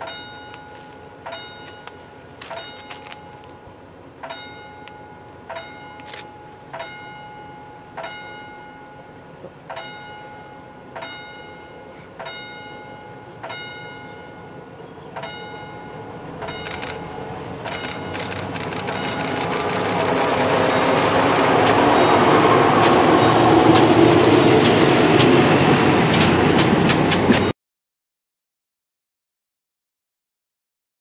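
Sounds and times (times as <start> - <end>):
level-crossing warning bell dings: 0.0 - 27.5
railbus engine and wheels: 0.0 - 27.5.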